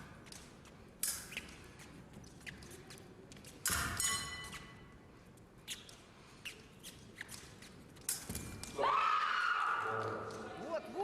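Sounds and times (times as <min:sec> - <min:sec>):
fencing blades clashing: 0:00.0 - 0:08.9
fencers' footwork: 0:00.0 - 0:11.0.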